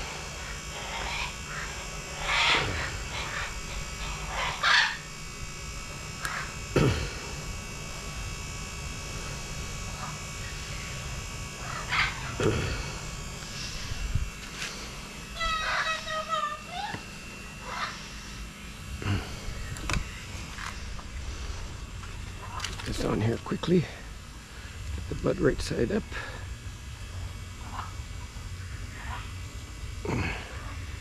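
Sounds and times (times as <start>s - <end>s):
electric motor hum: 0.0s - 31.0s.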